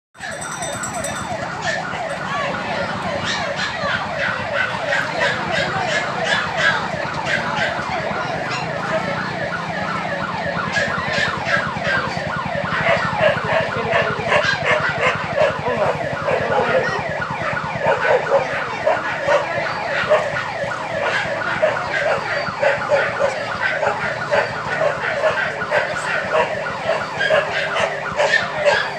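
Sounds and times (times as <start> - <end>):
sirens yelping: 0.2 - 28.9.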